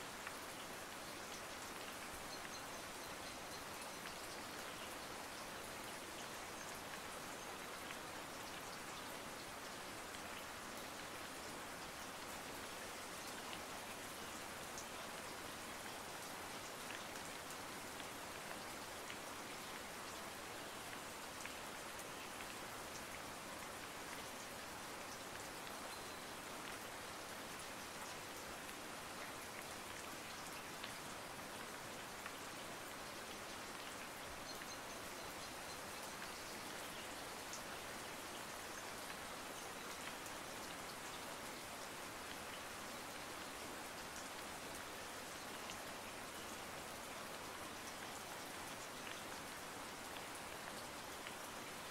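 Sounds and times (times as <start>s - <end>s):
steady hiss with faint ticks: 0.0s - 51.9s.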